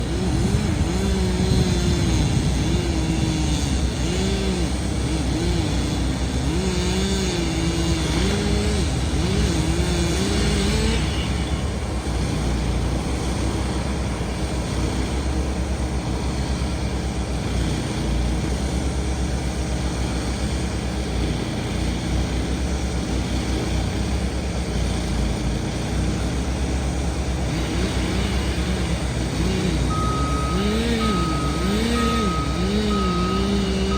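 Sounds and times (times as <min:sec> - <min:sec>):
heavy machinery engine rumbling: 0:00.0 - 0:33.9.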